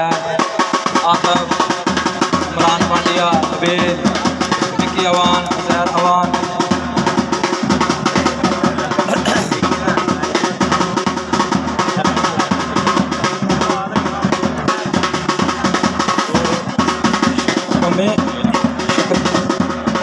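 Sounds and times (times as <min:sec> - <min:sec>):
barrel drum beaten with sticks: 0:00.0 - 0:20.0.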